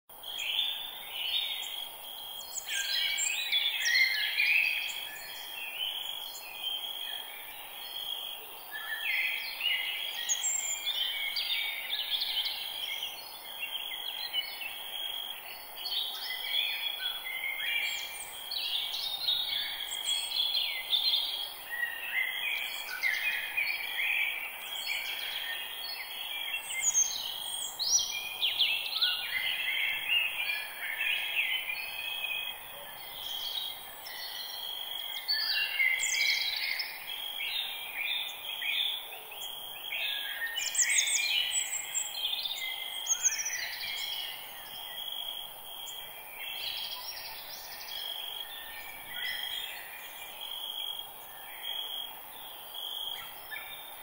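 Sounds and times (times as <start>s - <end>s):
background hiss: 0.1s - 54.0s.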